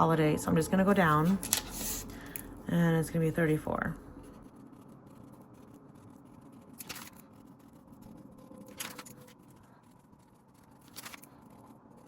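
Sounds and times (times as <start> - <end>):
papery scratches: 0.8 - 12.0.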